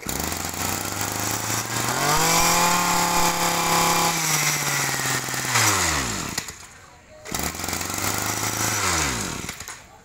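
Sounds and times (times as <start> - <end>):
brush cutter engine running: 0.0 - 10.0.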